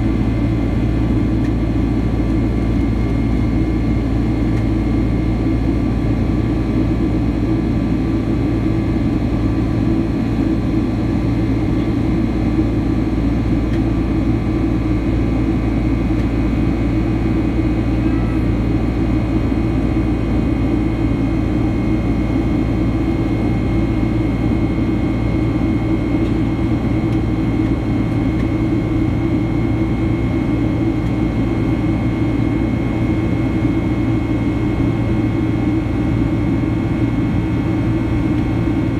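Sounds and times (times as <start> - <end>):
jet engine roar in cabin: 0.0 - 38.9.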